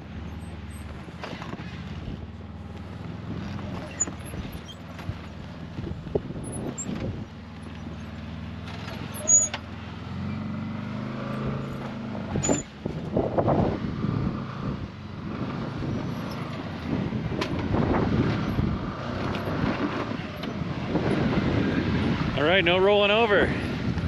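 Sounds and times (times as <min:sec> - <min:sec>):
engine revving under load: 0:00.0 - 0:24.0.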